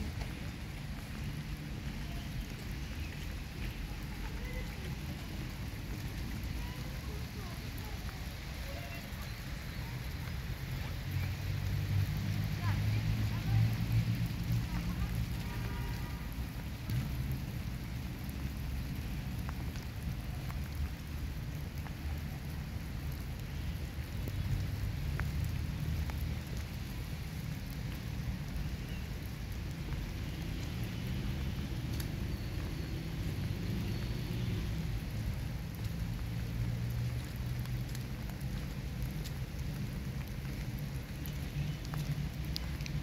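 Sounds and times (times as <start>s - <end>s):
rain on wet paving and grass: 0.0s - 43.0s.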